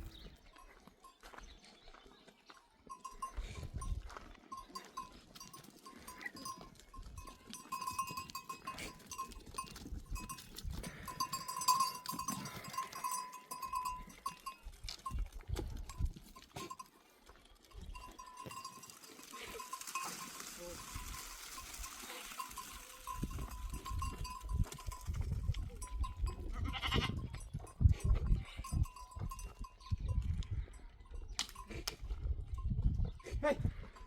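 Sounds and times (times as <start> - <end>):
goat bells clinking: 0.0 - 34.0.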